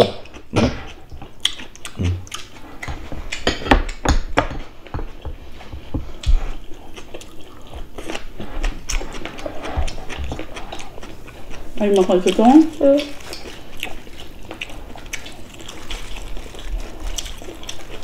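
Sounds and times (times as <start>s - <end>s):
chewing and mouth sounds: 0.0s - 4.0s, 4.6s - 18.0s.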